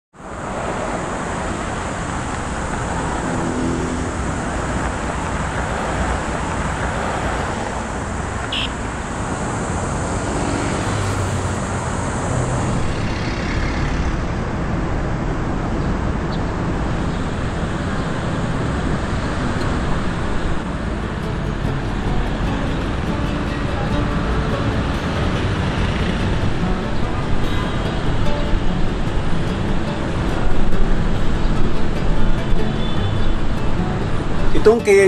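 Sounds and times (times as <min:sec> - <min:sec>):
road traffic rumble and hiss: 0:00.2 - 0:35.0.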